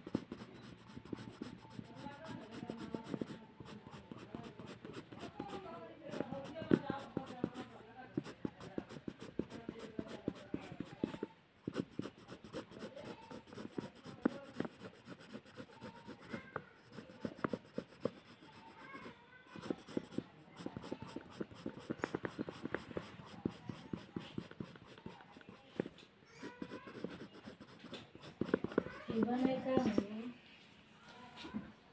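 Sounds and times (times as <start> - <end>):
pencil scratching on paper: 0.0 - 30.2.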